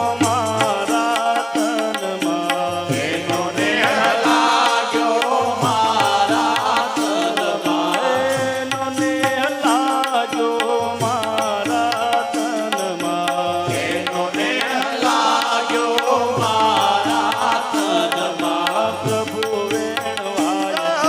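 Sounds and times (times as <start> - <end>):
regular percussion beat: 0.0 - 21.0.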